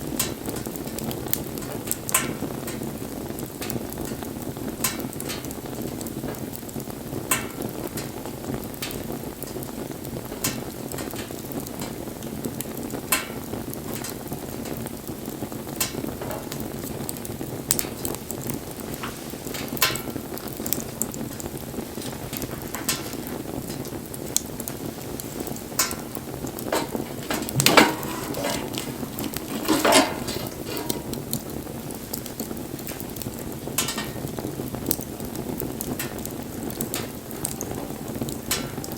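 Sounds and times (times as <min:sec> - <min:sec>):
fire crackling and popping: 0:00.0 - 0:38.9
low rush of flames: 0:00.0 - 0:38.9.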